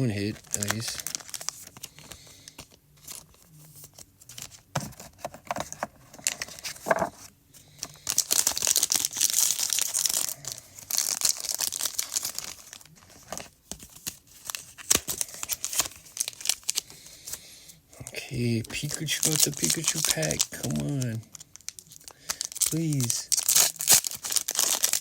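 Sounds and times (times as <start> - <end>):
foil pack crinkling and tearing: 0.0 - 17.6, 18.3 - 25.0.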